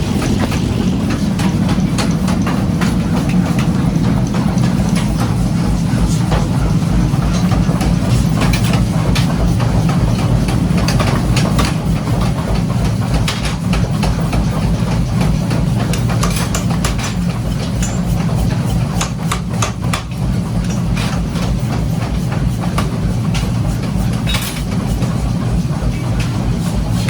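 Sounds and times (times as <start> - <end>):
machinery humming: 0.0 - 27.0
metal knocks and clanks: 0.0 - 27.0.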